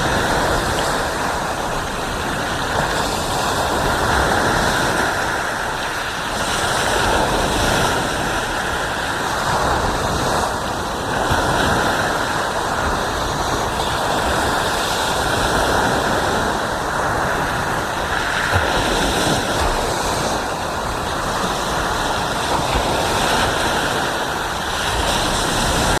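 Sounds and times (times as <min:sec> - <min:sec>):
ocean waves breaking on beach: 0:00.0 - 0:26.0.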